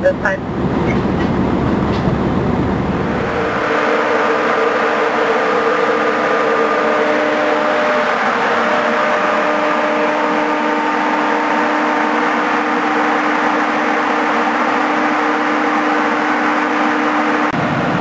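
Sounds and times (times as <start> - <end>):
fire truck engine running: 0.0 - 18.0.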